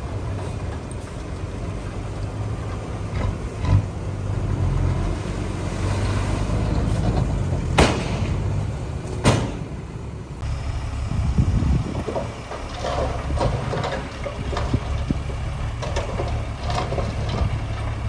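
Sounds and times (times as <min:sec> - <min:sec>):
diesel machinery engine rumbling: 0:00.0 - 0:18.0.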